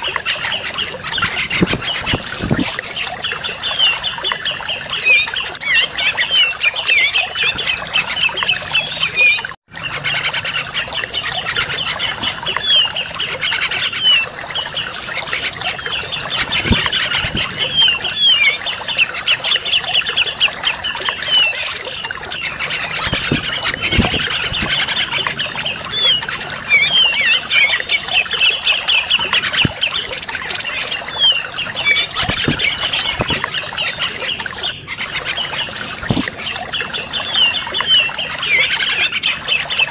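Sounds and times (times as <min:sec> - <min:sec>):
bulbuls chattering: 0:00.1 - 0:04.1, 0:05.0 - 0:39.9.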